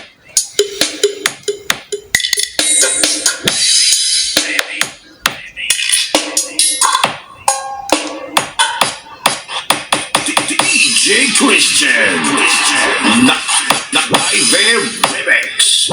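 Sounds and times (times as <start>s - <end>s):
music with drum beat: 0.0s - 11.3s, 12.4s - 15.9s.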